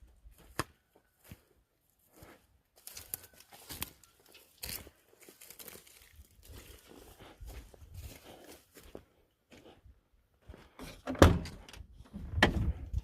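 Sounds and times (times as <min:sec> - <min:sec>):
faint crunching and rustling: 0:00.3 - 0:10.8.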